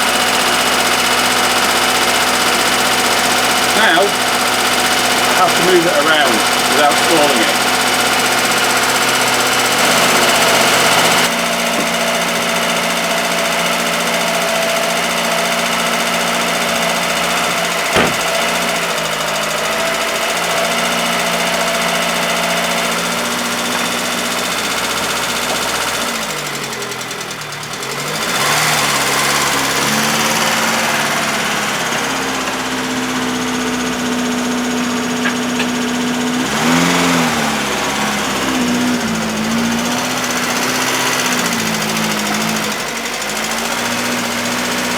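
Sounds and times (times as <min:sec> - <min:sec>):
car engine running: 0:00.0 - 0:44.9.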